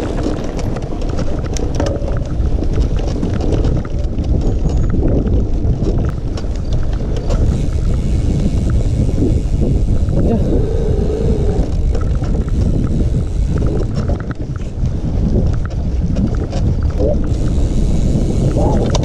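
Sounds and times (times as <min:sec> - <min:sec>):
bike rattling and knocking: 0:00.0 - 0:19.0
wind buffeting microphone: 0:00.0 - 0:19.0.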